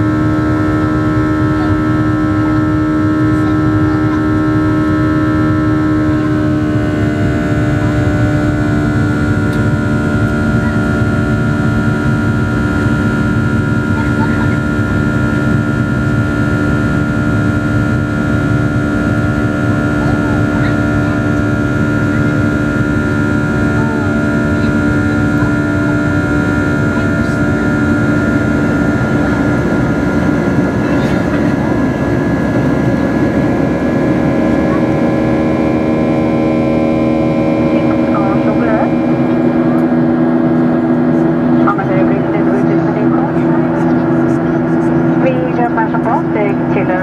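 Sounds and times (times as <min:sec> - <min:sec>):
engine whining tones: 0:00.0 - 0:47.0
jet engine cabin rumble: 0:00.0 - 0:47.0.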